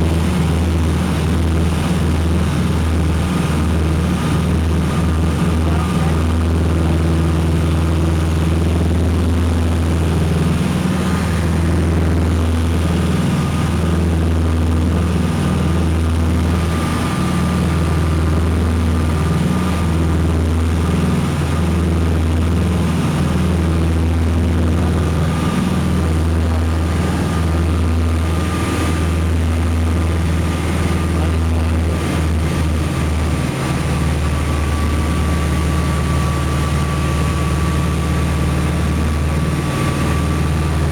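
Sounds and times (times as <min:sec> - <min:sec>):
propeller plane engines droning: 0:00.0 - 0:40.9.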